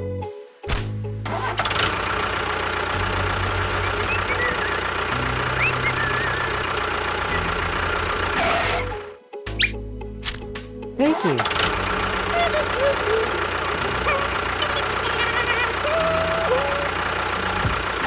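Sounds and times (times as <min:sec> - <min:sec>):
engine running: 0:00.8 - 0:09.2, 0:11.2 - 0:18.0.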